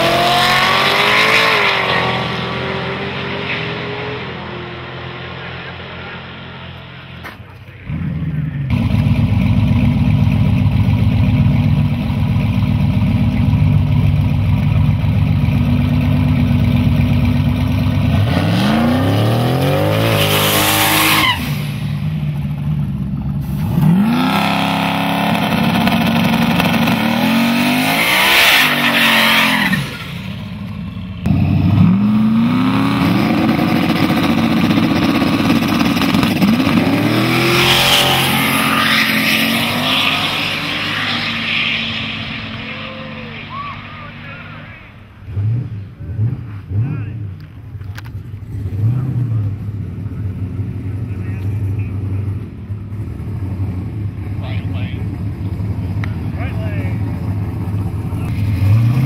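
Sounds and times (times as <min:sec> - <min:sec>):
drag racing engines revving: 0:00.0 - 0:59.0.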